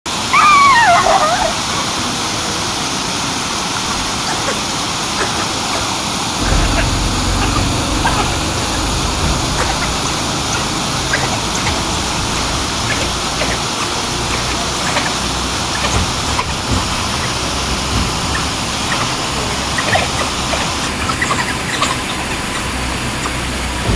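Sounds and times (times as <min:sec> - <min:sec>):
steady rushing noise: 0:01.7 - 0:23.9
high wavering yelp: 0:04.2 - 0:23.9.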